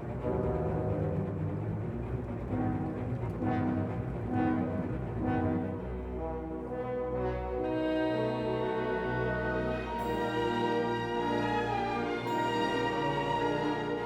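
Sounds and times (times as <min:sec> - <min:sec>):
orchestral music with brass: 0:00.0 - 0:14.0.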